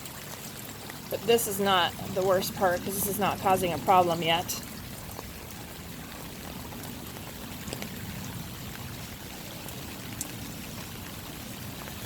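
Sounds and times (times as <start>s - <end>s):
rainwater pouring: 0.0s - 12.0s
water dripping: 0.0s - 12.0s.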